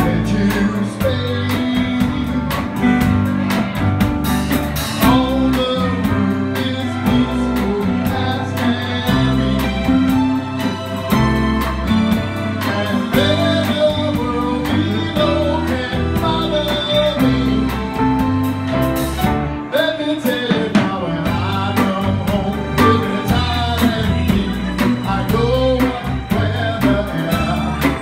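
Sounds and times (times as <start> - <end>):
man singing into microphone: 0.0 - 3.1, 4.9 - 10.5, 12.1 - 18.2, 19.6 - 28.0
drum kit beat: 0.0 - 28.0
live band playing soul-pop: 0.0 - 28.0.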